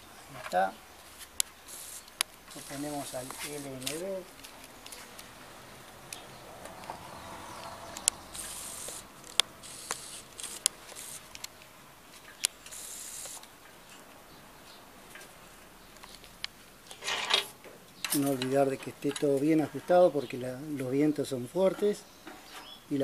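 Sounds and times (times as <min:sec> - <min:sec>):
rustle: 0:00.0 - 0:23.0.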